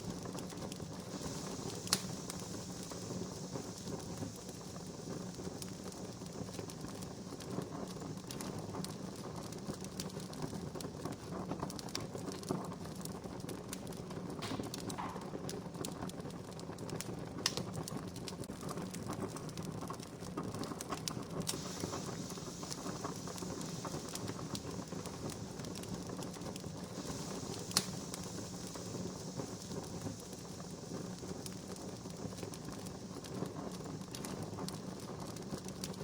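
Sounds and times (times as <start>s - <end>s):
campfire crackling: 0.0s - 36.0s
loud fire pops: 0.0s - 36.0s.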